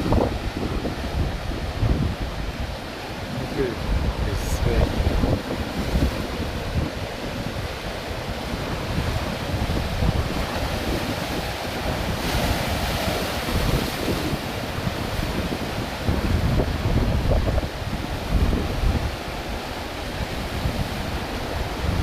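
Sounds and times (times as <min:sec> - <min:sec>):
surf washing over rocky shore: 0:00.0 - 0:22.0
wind buffeting microphone: 0:00.0 - 0:22.0.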